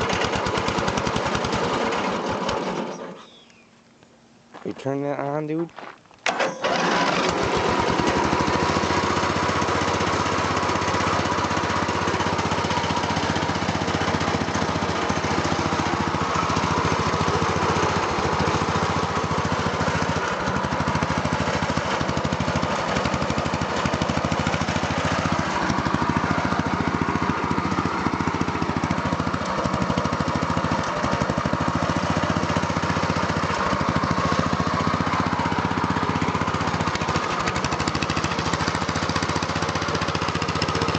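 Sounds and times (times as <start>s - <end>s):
lawn mower engine running loudly: 0.0s - 3.2s, 6.3s - 40.9s.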